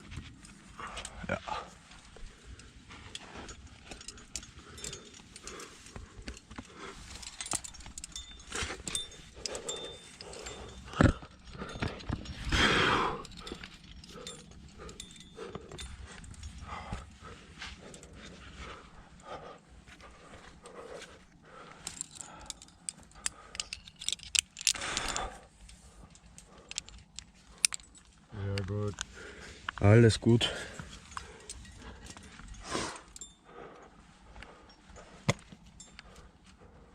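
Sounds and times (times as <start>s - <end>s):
climbing gear clinking: 0.0s - 36.9s.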